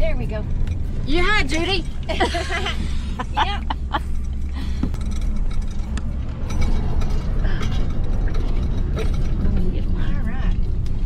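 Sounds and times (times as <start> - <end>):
vehicle rumbling on dirt track: 0.0 - 11.0.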